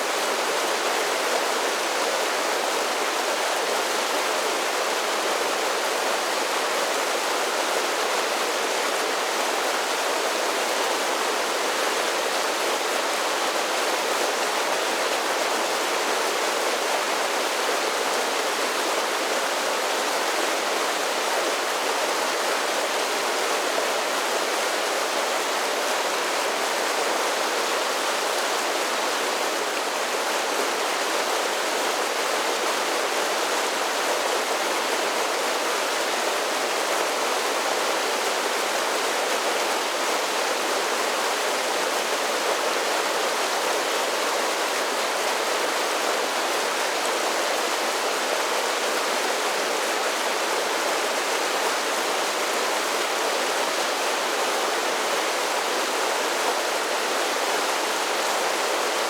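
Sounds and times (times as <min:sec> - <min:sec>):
creek water cascading: 0:00.0 - 0:59.0.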